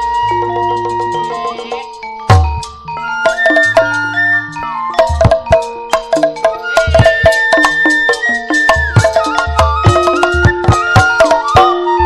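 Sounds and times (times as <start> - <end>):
instrumental music held notes: 0.0 - 12.0.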